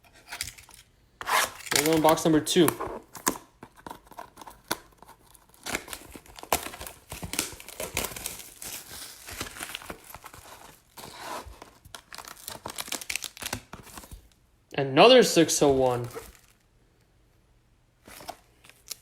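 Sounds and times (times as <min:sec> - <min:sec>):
packaging being torn and crinkled: 0:00.2 - 0:14.4, 0:16.0 - 0:16.7, 0:18.1 - 0:19.0.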